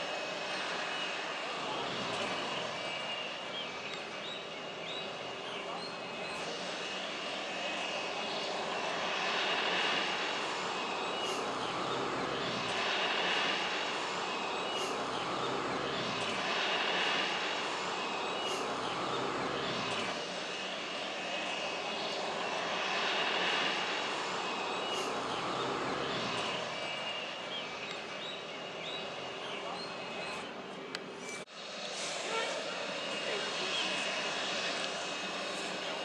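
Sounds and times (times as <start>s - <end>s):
turboprop engines whining: 0.0s - 36.0s.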